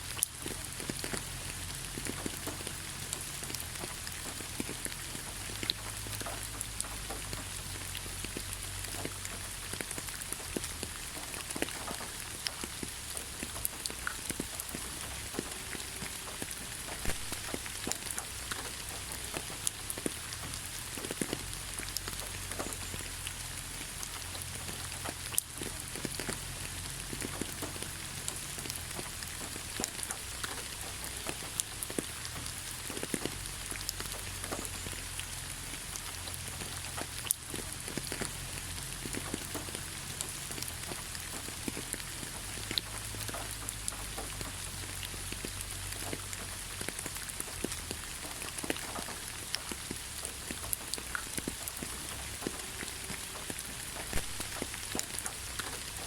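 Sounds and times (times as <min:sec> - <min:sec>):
rain falling on leaves: 0:00.0 - 0:56.0
raindrops ticking: 0:00.0 - 0:56.0.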